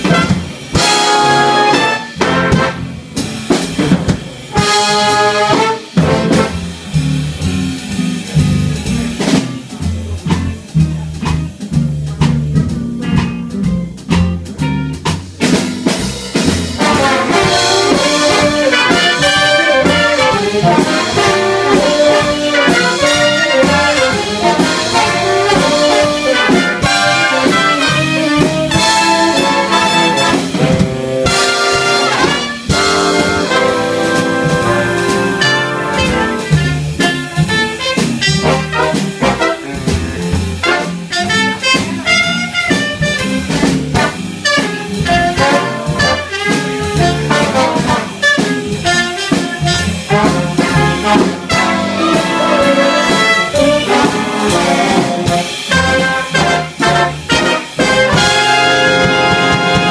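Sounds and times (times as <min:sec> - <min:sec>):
brass section chords: 0:00.0 - 0:09.4, 0:16.4 - 0:59.9
big band swing jazz: 0:00.0 - 0:59.9
drum kit: 0:00.0 - 0:59.9.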